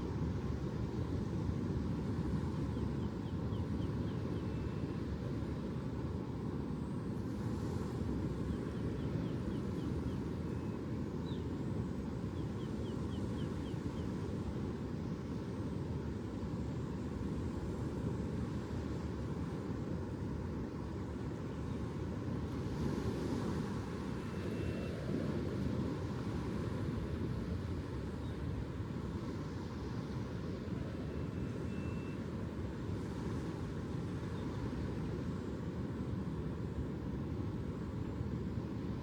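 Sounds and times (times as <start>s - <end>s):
wind: 0.0s - 39.0s.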